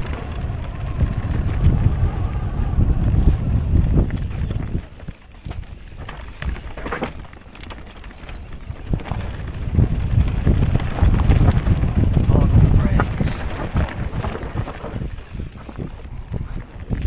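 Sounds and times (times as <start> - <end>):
bike rattling over rocks: 0.0 - 17.0
wind rumble on microphone: 0.0 - 17.0.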